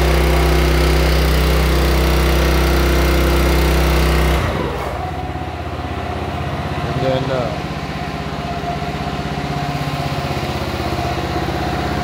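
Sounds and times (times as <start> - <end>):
small gasoline engine running: 0.0 - 12.0.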